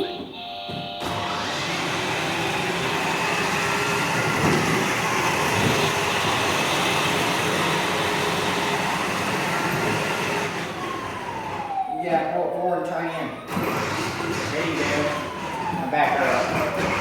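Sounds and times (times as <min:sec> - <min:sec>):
ride-on toy truck running: 0:00.9 - 0:11.9, 0:13.5 - 0:17.0.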